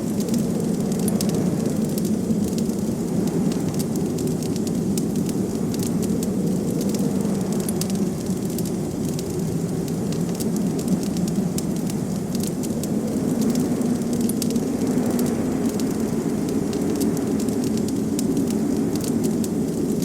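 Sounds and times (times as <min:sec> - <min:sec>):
blizzard wind rushing: 0:00.0 - 0:20.0
fireplace fire crackling: 0:00.0 - 0:20.0.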